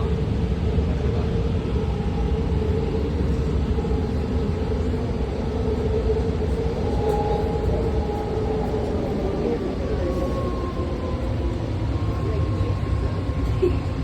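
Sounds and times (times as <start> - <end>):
train low rumble: 0.0 - 14.0
train whine: 0.0 - 14.0.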